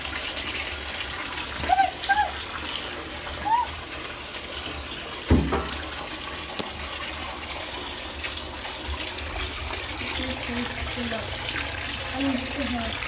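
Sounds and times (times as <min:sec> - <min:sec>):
water running in a bathtub: 0:00.0 - 0:13.0.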